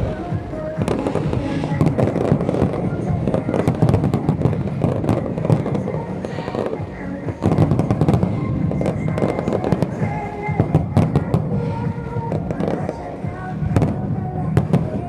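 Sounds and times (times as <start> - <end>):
continuous rumble: 0.0 - 15.0
music playing: 0.0 - 15.0.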